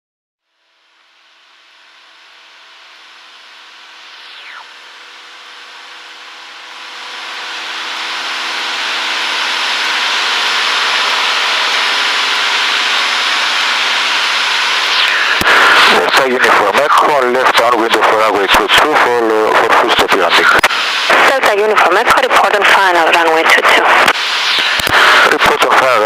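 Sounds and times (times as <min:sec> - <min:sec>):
airplane engine drone: 0:00.7 - 0:26.0.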